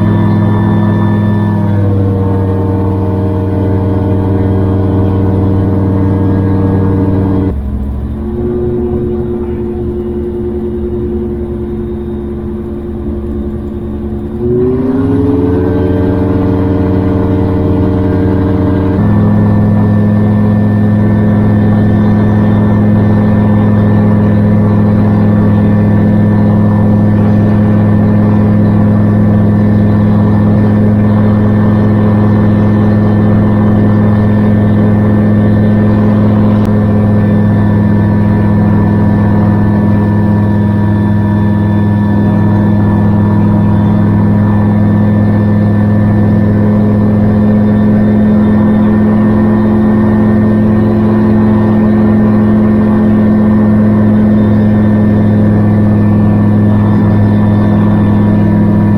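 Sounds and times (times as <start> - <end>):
gyrocopter engine and propeller: 0.0 - 58.9.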